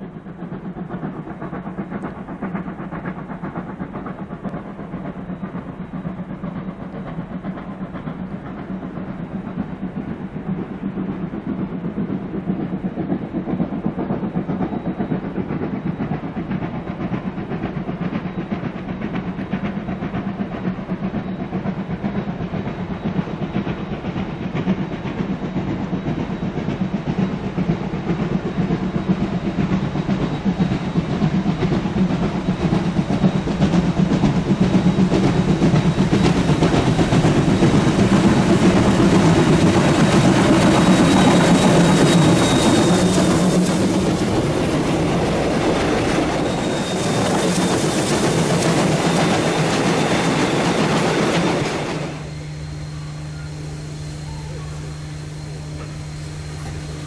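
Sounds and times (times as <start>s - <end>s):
steam locomotive exhaust: 0.0s - 57.0s.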